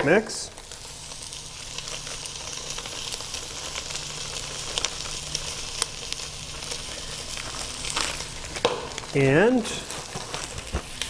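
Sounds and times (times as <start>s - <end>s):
meat sizzling in a roaster: 0.0s - 11.0s.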